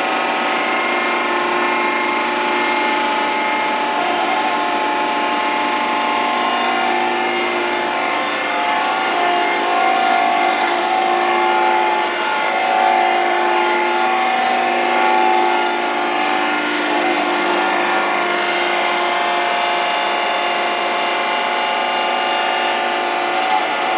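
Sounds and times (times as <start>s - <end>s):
grinder machine whine: 0.0s - 23.9s.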